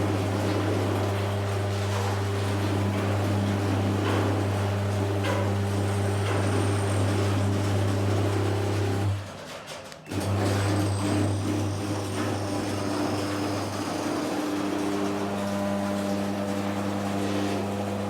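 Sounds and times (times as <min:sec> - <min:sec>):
garage door opener motor humming: 0:00.0 - 0:09.3, 0:10.0 - 0:18.0.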